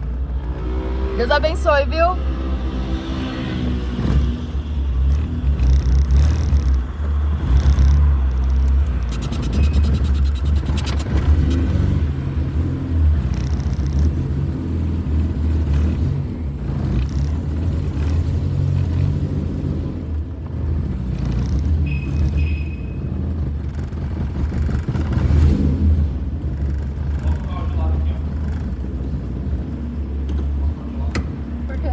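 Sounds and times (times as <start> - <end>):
car engine rumbling: 0.0 - 31.9.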